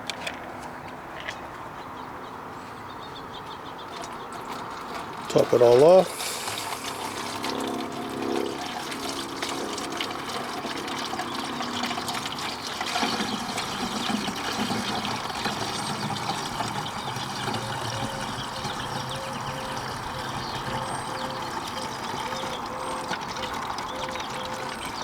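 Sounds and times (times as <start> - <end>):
fluid pouring into reservoir: 3.9 - 25.0.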